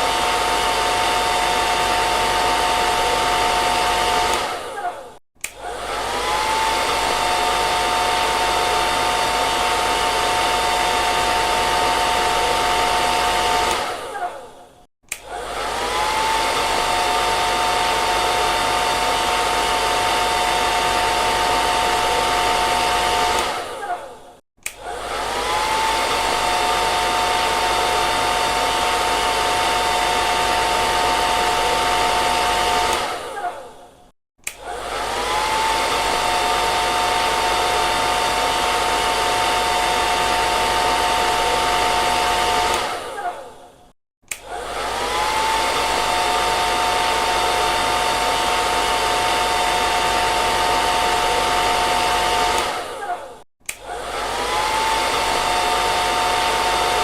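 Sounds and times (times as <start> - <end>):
hair dryer blowing: 0.0 - 33.8, 34.4 - 57.0.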